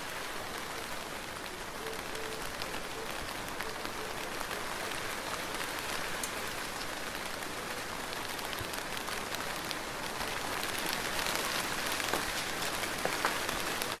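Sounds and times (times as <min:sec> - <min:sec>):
soft rain falling: 0:00.0 - 0:14.0.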